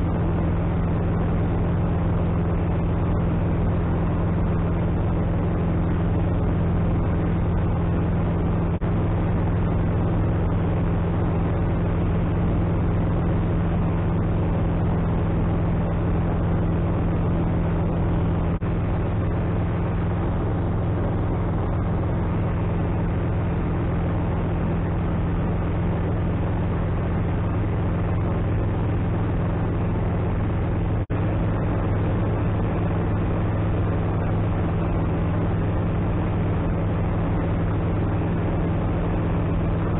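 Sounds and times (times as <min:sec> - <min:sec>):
aircraft engine and propeller drone: 0:00.0 - 0:39.9
wind noise: 0:00.0 - 0:39.9.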